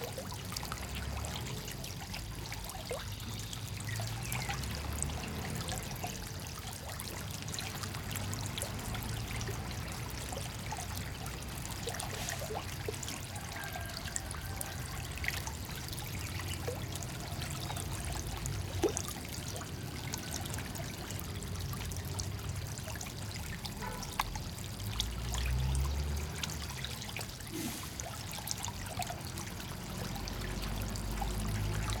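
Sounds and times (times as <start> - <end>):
pond water trickling and splashing: 0.0 - 32.0.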